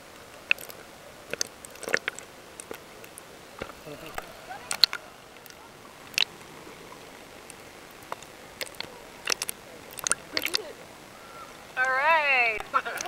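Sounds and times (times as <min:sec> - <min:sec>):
sharp underwater clicks: 0:00.1 - 0:13.0.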